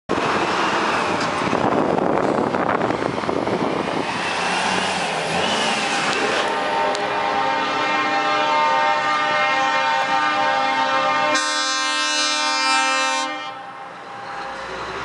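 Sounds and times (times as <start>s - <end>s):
heavy trucks driving past: 0.1s - 11.3s, 13.3s - 15.0s.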